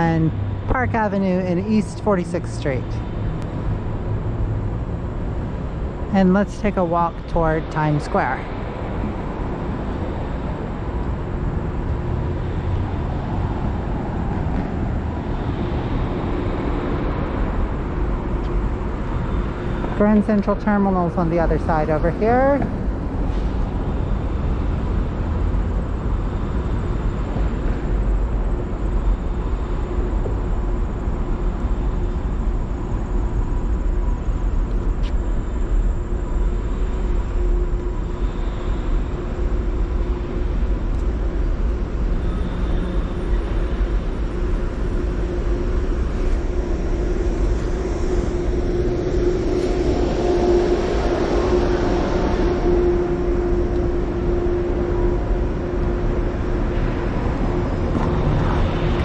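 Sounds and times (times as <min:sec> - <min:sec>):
city traffic rumble: 0:00.0 - 0:59.0
steady hum: 0:00.0 - 0:59.0.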